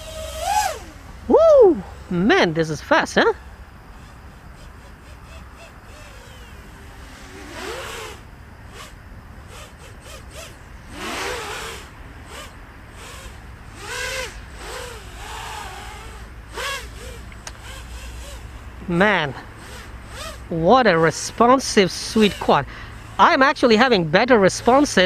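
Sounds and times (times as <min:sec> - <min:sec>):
drone propellers buzzing: 0:00.0 - 0:25.0.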